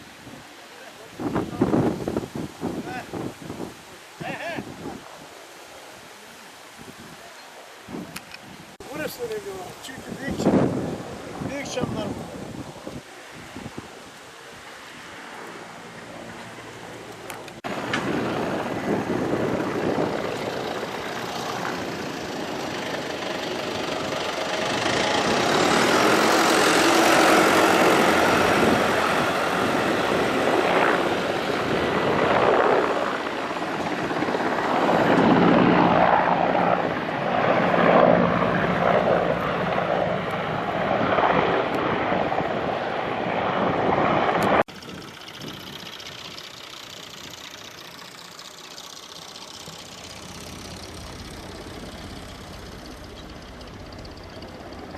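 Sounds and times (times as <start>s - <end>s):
aircraft engine drone: 8.8s - 54.9s.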